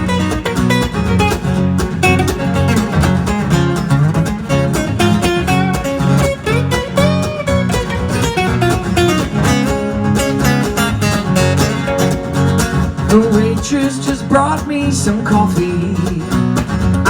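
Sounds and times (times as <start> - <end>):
acoustic guitar strumming: 0.0 - 17.0
pitched notes over strumming: 0.0 - 17.0.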